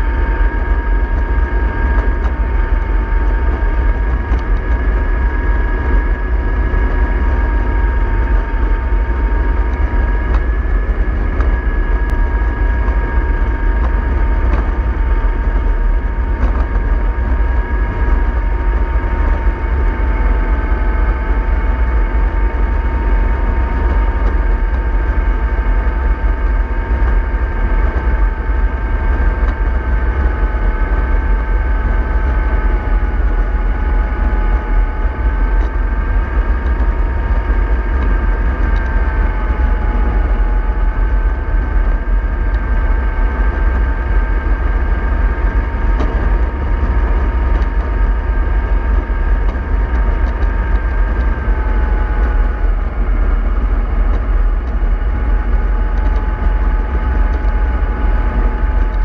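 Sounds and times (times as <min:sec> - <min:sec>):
model bus motor rumble and whine: 0:00.0 - 0:59.0.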